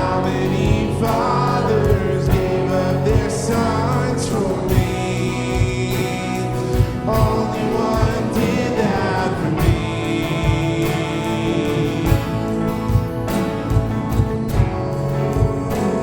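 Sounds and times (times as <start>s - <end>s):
person singing: 0.0s - 16.0s
steady drum beat: 0.0s - 16.0s
worship band playing slow song: 0.0s - 16.0s.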